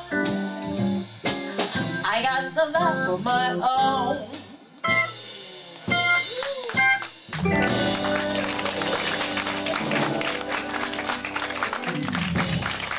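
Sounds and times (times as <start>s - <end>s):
organ jazz band chords: 0.0s - 2.2s, 2.8s - 12.9s.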